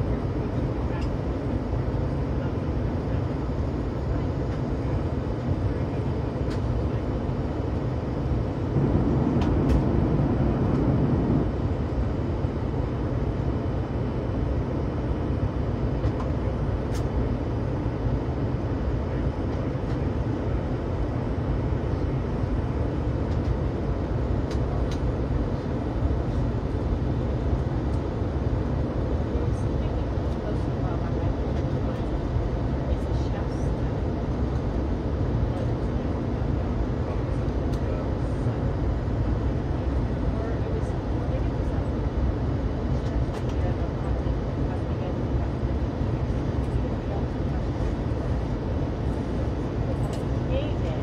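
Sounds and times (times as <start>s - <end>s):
aircraft cabin engine rumble: 0.0s - 51.0s.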